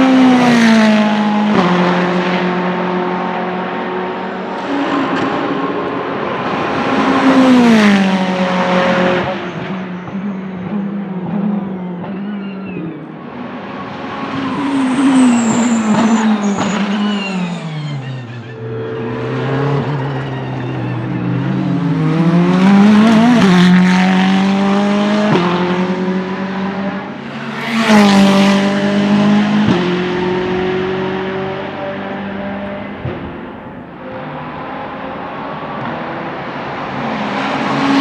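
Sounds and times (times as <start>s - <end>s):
race car engine accelerating: 0.0s - 38.0s.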